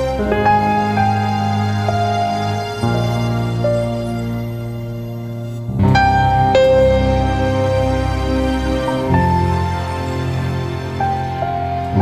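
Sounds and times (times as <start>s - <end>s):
slow soft background music: 0.0s - 12.0s.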